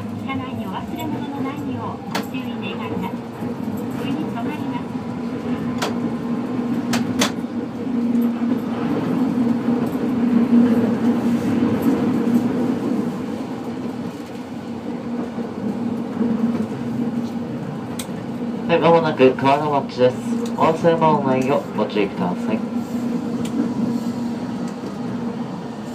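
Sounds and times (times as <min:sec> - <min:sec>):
streetcar running hum: 0:00.0 - 0:25.9.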